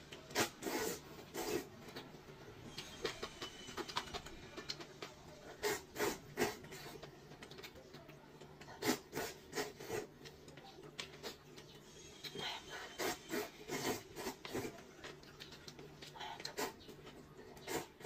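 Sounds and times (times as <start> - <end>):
woman chewing: 0.0 - 18.0.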